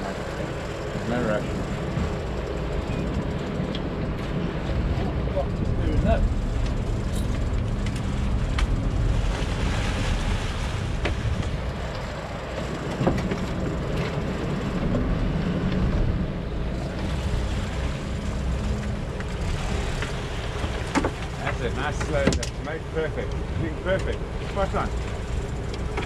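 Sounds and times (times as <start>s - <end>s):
boat engine rumbling: 0.0s - 26.0s
churning water: 0.0s - 26.0s.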